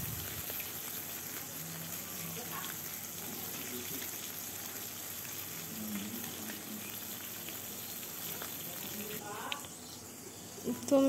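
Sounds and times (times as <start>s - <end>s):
fish sizzling in hot oil: 0.0s - 10.2s
faint crackles of frying: 0.0s - 11.0s.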